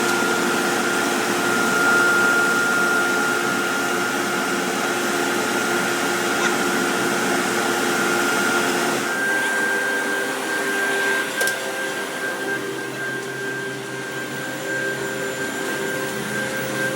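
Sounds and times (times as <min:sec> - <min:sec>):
industrial machine whining: 0:00.0 - 0:16.9.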